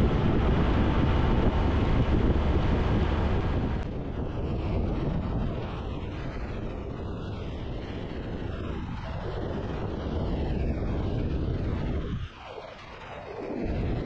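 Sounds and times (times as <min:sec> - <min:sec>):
motorcycle engine drone: 0:00.0 - 0:14.0
wind rushing over microphone: 0:00.0 - 0:14.0.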